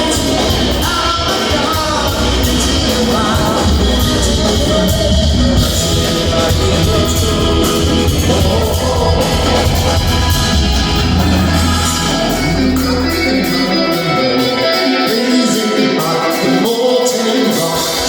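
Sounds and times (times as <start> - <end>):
heavy bass: 0.0 - 15.6
drums: 0.0 - 18.0
electric guitar: 0.0 - 18.0
person singing: 0.0 - 18.0.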